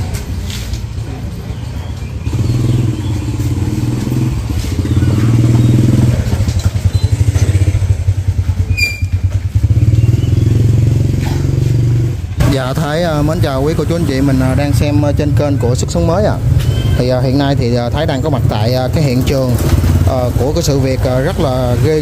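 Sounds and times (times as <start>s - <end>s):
motorbike engine running: 1.0s - 22.0s.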